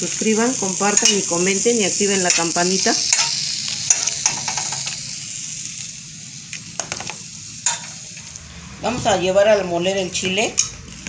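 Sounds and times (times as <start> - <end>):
chiles hissing on a griddle: 0.0 - 11.0.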